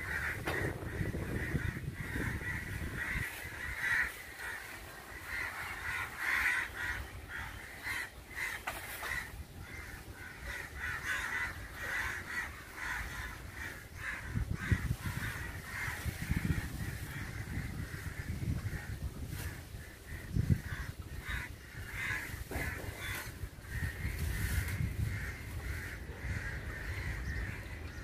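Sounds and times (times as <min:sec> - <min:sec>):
crows cawing: 0:00.0 - 0:28.0.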